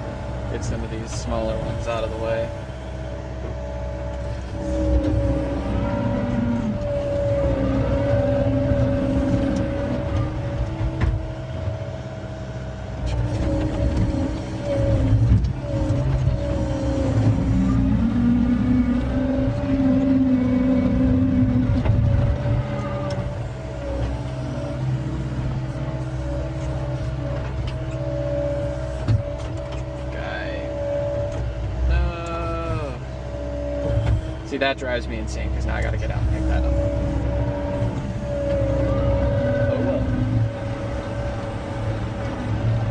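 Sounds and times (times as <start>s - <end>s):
diesel engine and hydraulics working: 0.0s - 42.9s.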